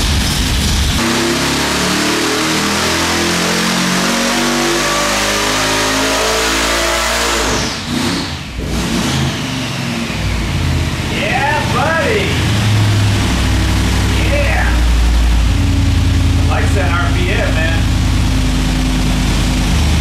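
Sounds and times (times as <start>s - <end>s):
engine revving on dyno: 0.0s - 20.0s
supercharger whine: 0.0s - 20.0s.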